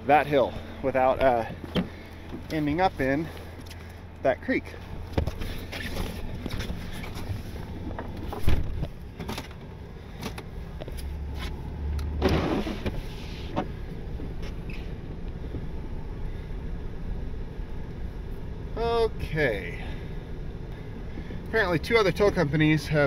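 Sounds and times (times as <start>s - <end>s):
pickup engine running low: 0.0s - 23.0s.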